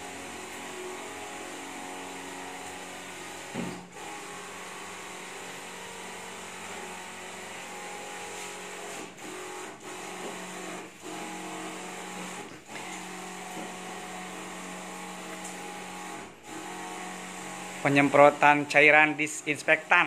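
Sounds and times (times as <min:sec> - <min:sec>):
electric pump humming: 0:00.0 - 0:20.0.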